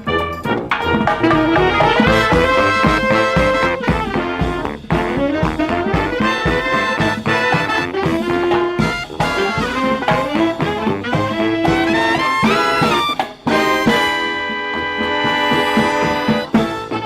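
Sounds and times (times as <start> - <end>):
brass marching band playing: 0.0 - 17.0.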